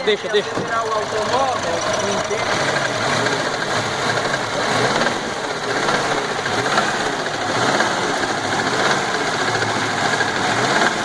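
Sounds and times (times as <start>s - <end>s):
car engine running: 0.0s - 11.0s
engine rattling noise: 0.0s - 11.0s.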